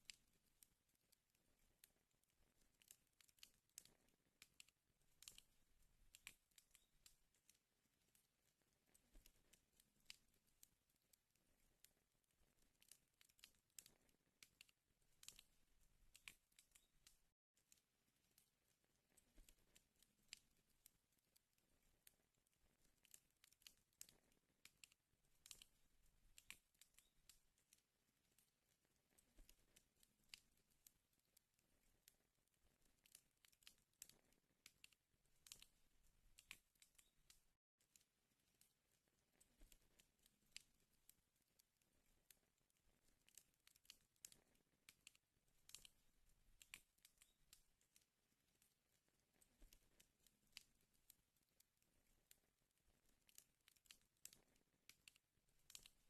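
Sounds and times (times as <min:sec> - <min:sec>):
wood fire crackling and popping: 0:02.5 - 0:31.4, 0:32.0 - 0:38.0, 0:42.3 - 0:51.2, 0:52.4 - 0:56.0.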